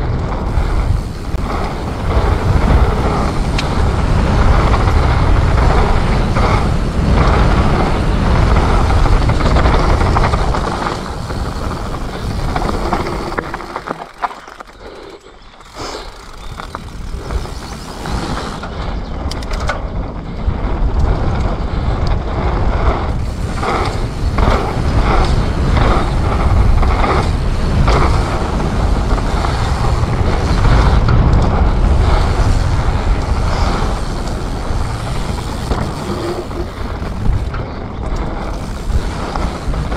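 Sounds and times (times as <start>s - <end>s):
bike rattling over bumps: 0.0s - 39.9s
bike tyres rumbling: 0.0s - 39.9s
wind on microphone: 0.0s - 39.9s.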